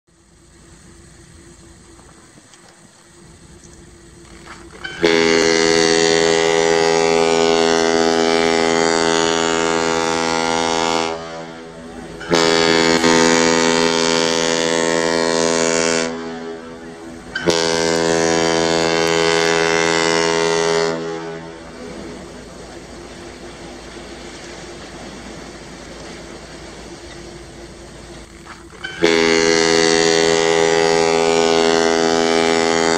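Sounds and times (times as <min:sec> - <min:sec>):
faint steady hum: 0:00.1 - 0:32.9
deep ship's horn blasts: 0:03.0 - 0:32.9.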